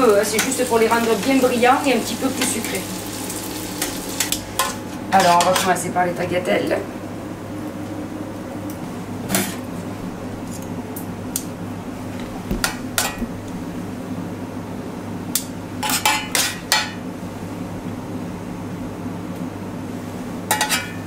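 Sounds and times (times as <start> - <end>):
steady low hum: 3.2 - 21.0.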